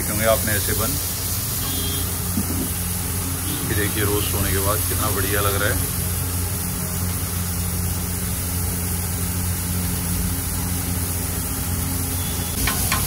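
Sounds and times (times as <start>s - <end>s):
food frying on a griddle: 0.0s - 13.0s.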